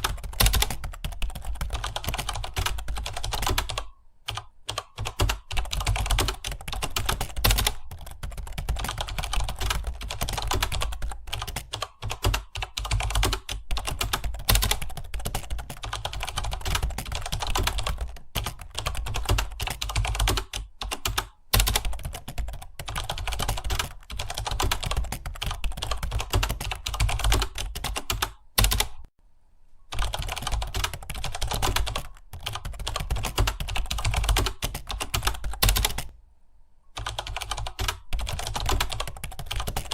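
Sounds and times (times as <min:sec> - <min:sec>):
typing on computer keyboard: 0:00.0 - 0:29.1, 0:29.9 - 0:36.1, 0:37.0 - 0:39.9.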